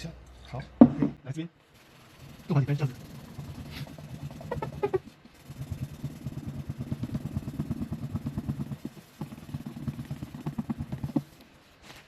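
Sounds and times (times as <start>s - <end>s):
steel wool scrubbing wood: 1.7s - 12.0s.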